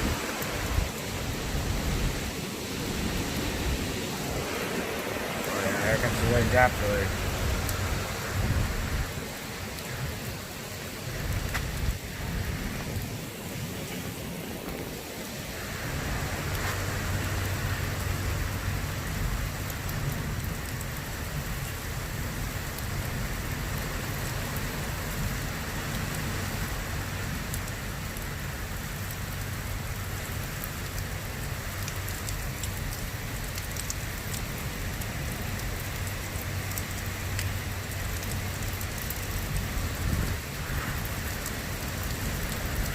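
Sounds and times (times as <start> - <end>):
wind gusts rumbling: 0.0 - 27.4, 34.8 - 42.9
heavy rain falling: 0.0 - 42.9.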